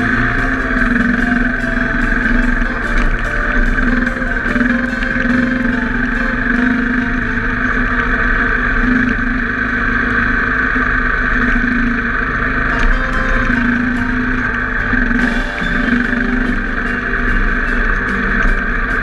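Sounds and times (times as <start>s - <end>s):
gravel ticking under tyres: 0.0s - 19.0s
motorcycle engine running: 0.0s - 19.0s.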